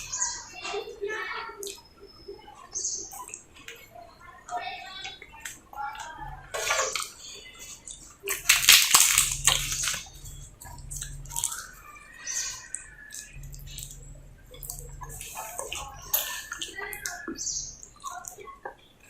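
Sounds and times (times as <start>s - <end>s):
wet chewing: 3.0s - 18.8s.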